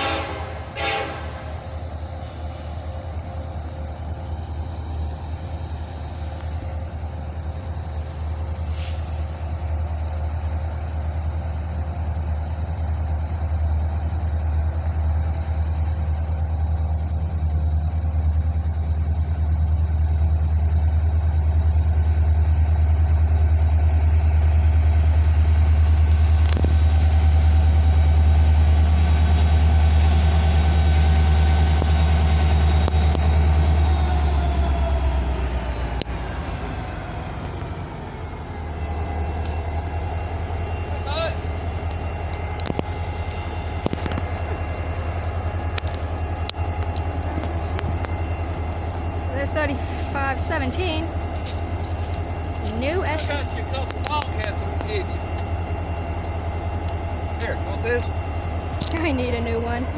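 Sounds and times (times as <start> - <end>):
diesel locomotive engine rumbling: 0.0 - 59.9.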